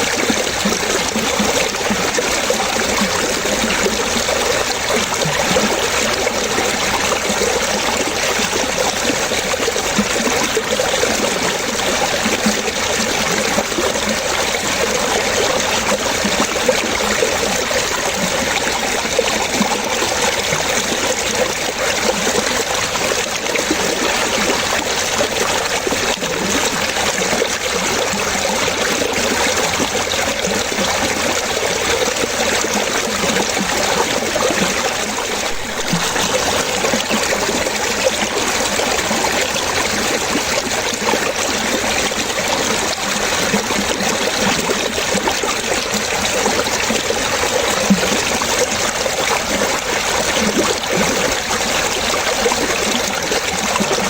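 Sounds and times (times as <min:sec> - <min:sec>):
water trickling and splashing: 0:00.0 - 0:54.0.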